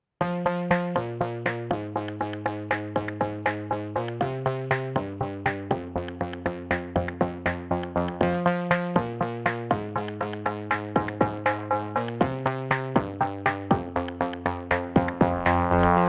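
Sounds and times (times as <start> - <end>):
electronic music with drum machine: 0.2 - 16.0.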